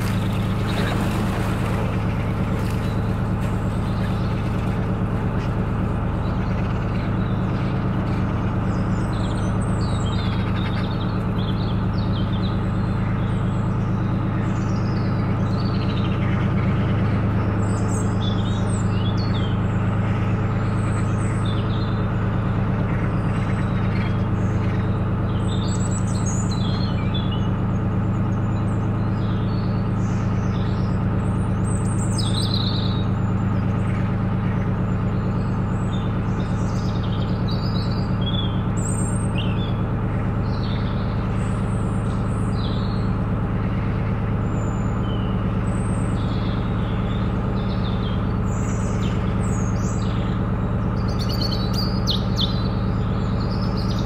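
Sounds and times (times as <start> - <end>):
boat engine humming: 0.0 - 54.0
small birds chirping: 0.0 - 54.0.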